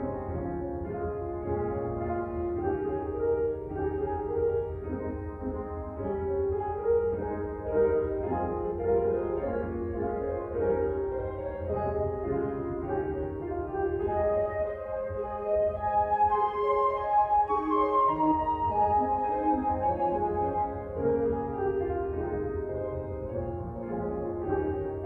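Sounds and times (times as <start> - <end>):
instrumental background music: 0.0 - 25.0.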